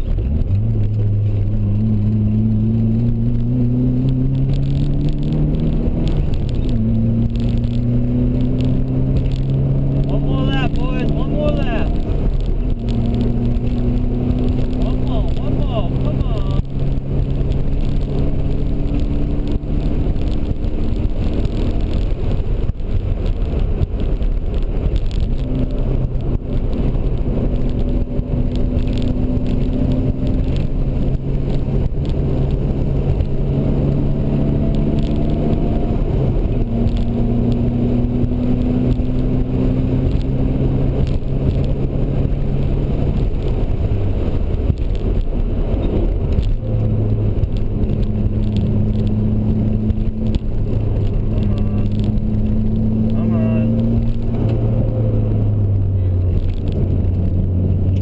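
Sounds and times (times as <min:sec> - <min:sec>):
car engine running hard: 0:00.0 - 0:58.0
road and wind noise: 0:00.0 - 0:58.0.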